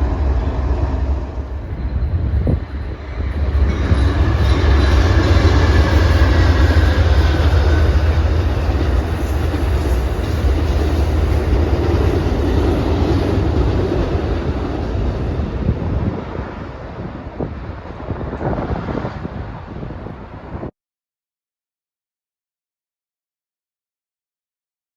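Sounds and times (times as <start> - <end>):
train wheels rumbling on rails: 0.0 - 20.7.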